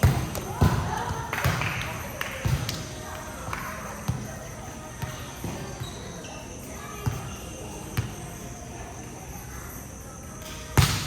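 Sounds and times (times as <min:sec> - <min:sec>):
faint voices: 0:00.0 - 0:10.8
steady high-pitched hum: 0:00.0 - 0:11.0.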